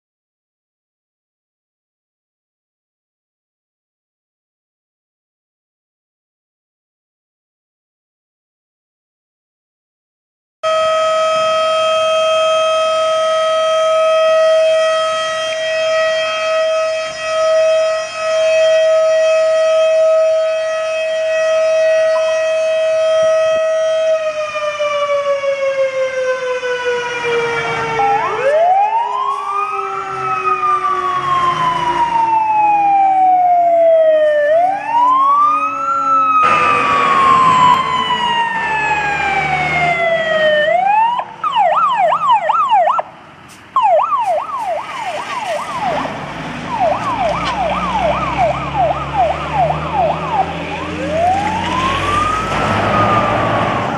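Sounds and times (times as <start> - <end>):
civil defence siren: 10.6 - 53.9
fire engine siren wailing: 10.6 - 53.9.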